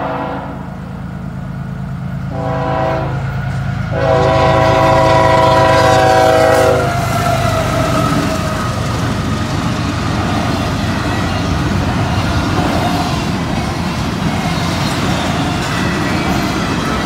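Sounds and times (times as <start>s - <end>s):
freight train passing: 0.0s - 17.0s.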